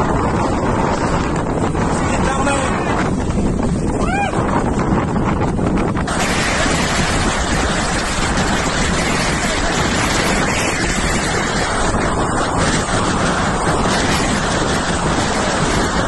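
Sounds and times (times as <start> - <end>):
wind and sea water rushing: 0.0 - 16.0
wind buffeting microphone: 0.0 - 16.0.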